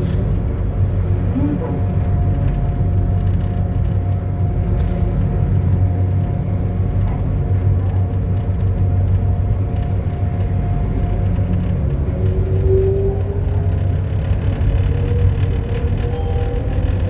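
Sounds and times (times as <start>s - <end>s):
train rumbling and humming: 0.0s - 17.0s.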